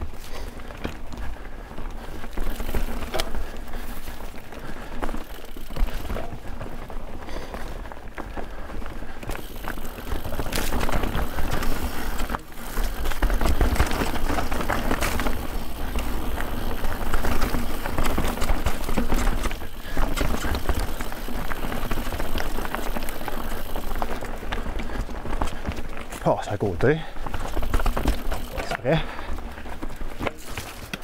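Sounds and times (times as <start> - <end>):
bike rattling and knocking: 0.0 - 31.0
bike tyres rolling over rocks: 0.0 - 31.0.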